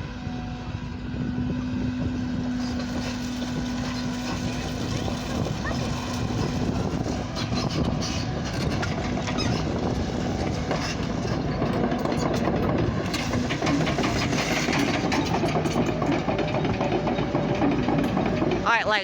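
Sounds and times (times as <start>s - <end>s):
diesel train engine rumble: 0.0s - 19.0s
wheels clicking over rails: 2.8s - 19.0s.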